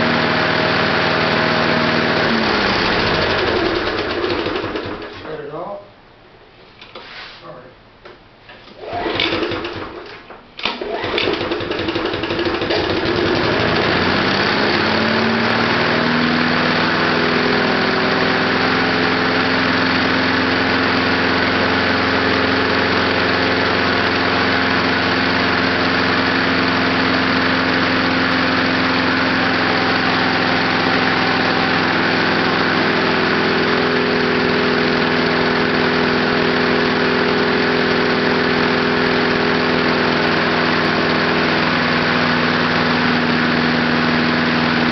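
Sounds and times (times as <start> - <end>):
lawnmower engine running: 0.0 - 5.3, 8.8 - 44.9.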